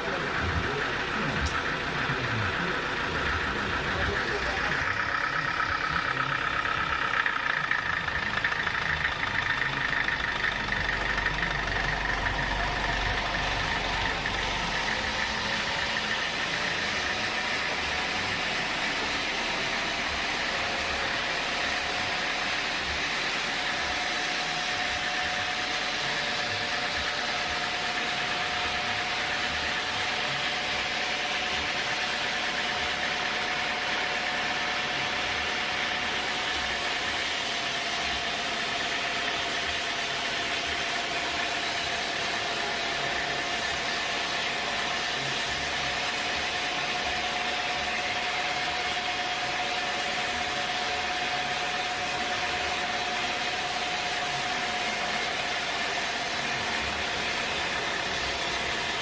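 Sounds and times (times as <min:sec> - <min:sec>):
sawmill machinery whining: 0:00.0 - 0:59.0.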